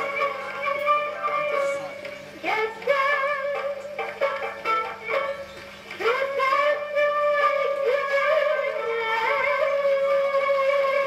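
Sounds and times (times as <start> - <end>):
old gramophone record singing: 0.0 - 11.0.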